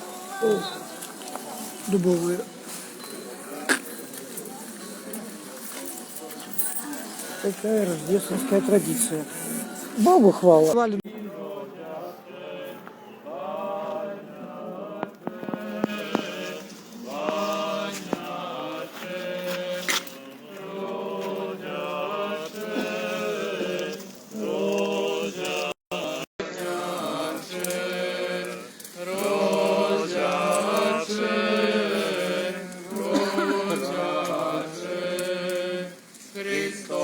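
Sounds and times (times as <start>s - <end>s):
voices chanting a hymn: 0.0s - 37.0s.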